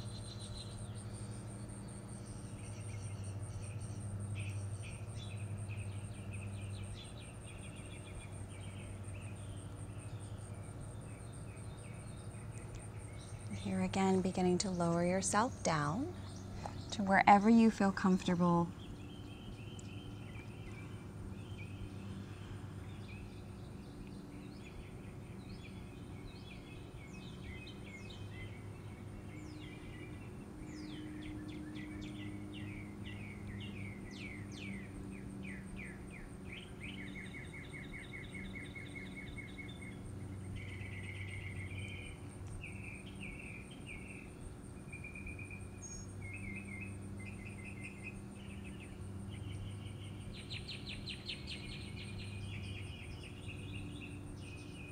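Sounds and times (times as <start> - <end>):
songbirds singing: 0.0 - 54.9
steady low hum: 0.0 - 54.9.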